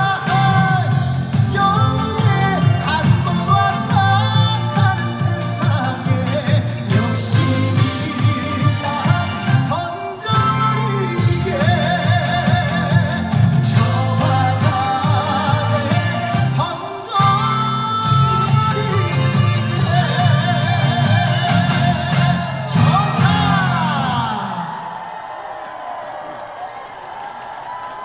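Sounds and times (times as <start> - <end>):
instrumental accompaniment: 0.0 - 24.1
man singing with vibrato: 0.0 - 25.1.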